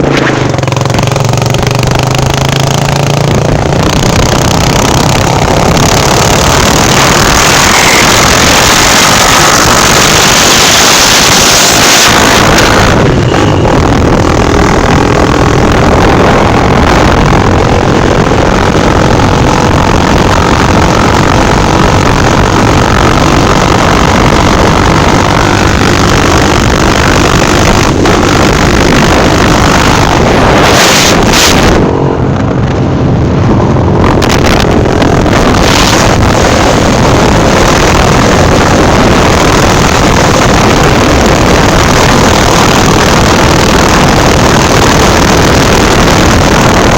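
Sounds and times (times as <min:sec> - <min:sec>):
vehicle engine running: 0:00.0 - 0:46.9
wind noise on microphone: 0:00.0 - 0:46.9.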